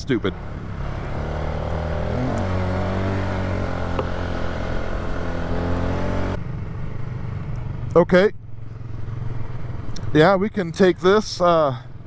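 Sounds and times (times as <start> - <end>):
atv engine running: 0.0 - 10.2.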